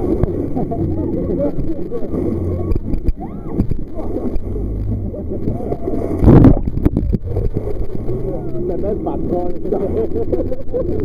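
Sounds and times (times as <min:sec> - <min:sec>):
boat engine drone: 0:00.0 - 0:11.0
faint voices: 0:00.4 - 0:11.0.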